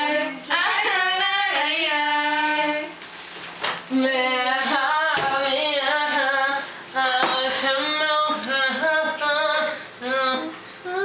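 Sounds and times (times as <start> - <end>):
woman singing: 0.0 - 3.0, 3.9 - 11.0.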